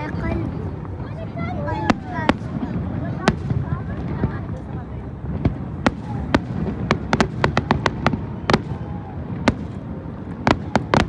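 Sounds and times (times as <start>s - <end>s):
fireworks cracking: 0.0s - 11.0s
low rumble of crowd: 0.0s - 11.0s.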